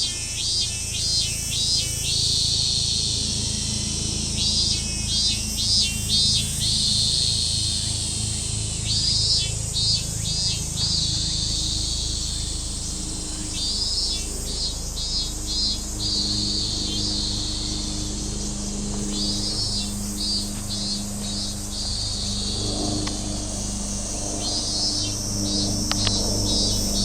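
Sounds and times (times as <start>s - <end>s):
cicada singing: 0.0s - 27.0s
steady low hum: 0.0s - 27.0s.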